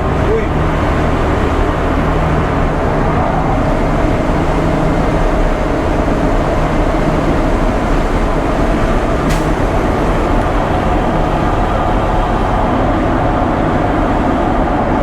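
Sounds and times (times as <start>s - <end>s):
diesel engine drone: 0.0s - 15.0s
road noise: 0.0s - 15.0s.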